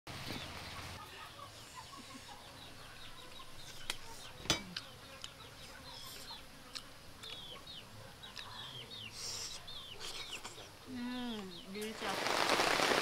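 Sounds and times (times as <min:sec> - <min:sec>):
small birds chirping: 0:00.1 - 0:13.0
chickens clucking: 0:00.3 - 0:11.8.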